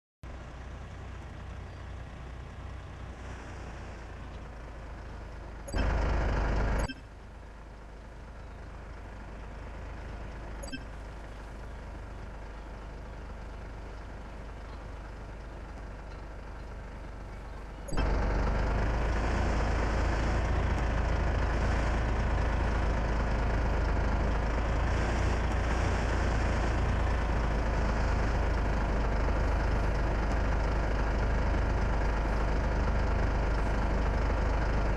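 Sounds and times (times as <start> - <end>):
truck engine rumbling: 0.2 - 34.9.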